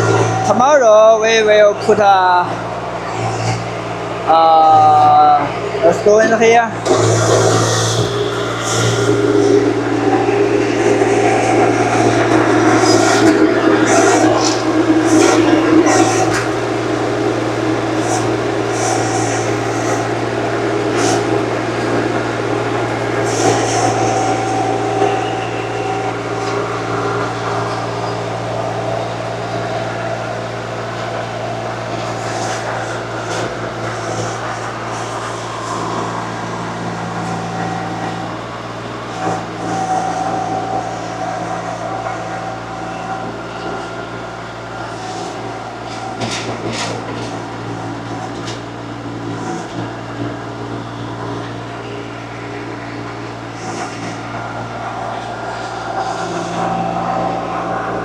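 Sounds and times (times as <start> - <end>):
earthmoving machine engine whining: 0.0 - 58.0.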